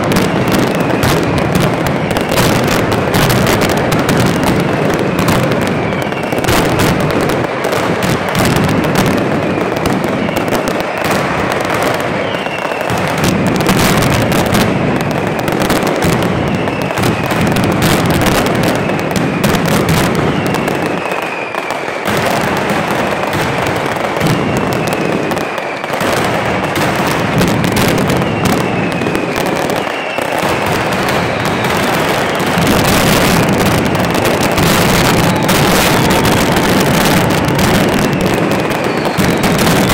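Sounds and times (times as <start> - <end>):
falling firework whistles: 0.0 - 39.9
firecrackers crackling and banging: 0.0 - 39.9.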